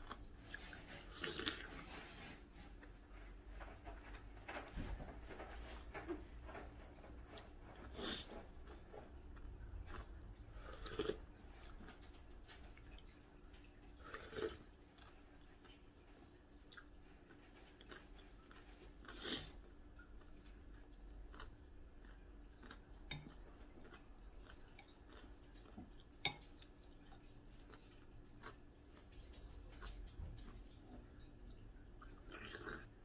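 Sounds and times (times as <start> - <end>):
quiet chewing: 0.0 - 33.0.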